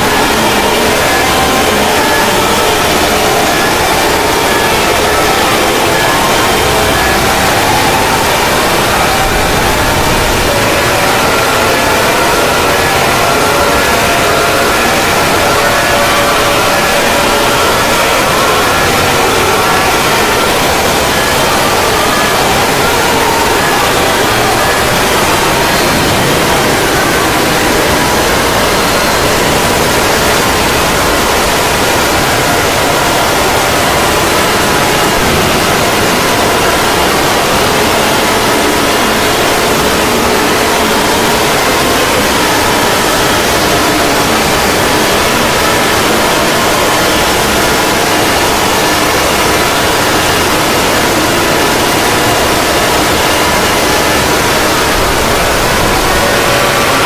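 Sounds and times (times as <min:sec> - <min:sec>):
loud static hiss: 0:00.0 - 0:57.0.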